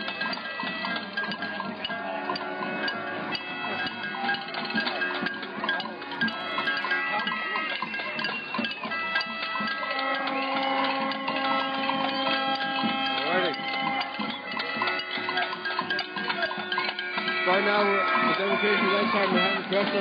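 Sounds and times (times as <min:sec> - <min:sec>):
music: 0:00.0 - 0:20.0
noisemakers: 0:00.0 - 0:20.0
voices: 0:00.0 - 0:20.0.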